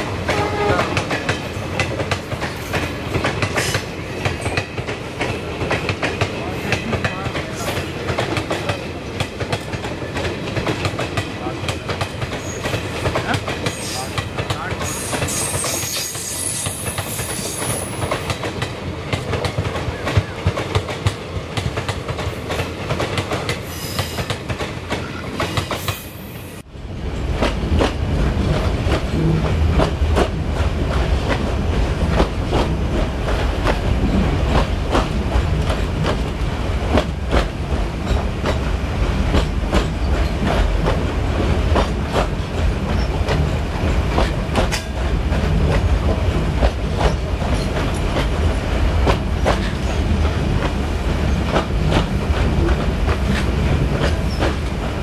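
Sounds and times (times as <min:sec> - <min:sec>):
train wheels clicking on rail joints: 0:00.0 - 0:26.6, 0:27.3 - 0:55.0
train rolling rumble: 0:00.0 - 0:55.0.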